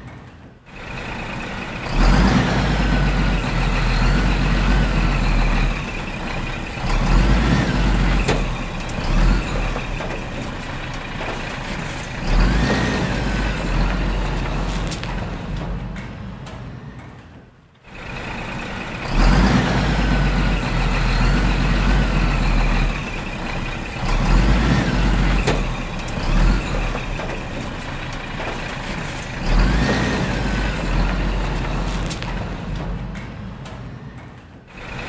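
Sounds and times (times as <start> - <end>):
diesel engine rumble: 0.0 - 35.0.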